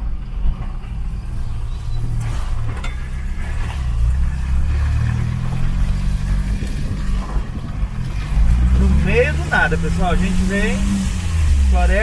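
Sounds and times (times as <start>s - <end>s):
road noise: 0.0s - 12.0s
van engine running: 0.0s - 12.0s.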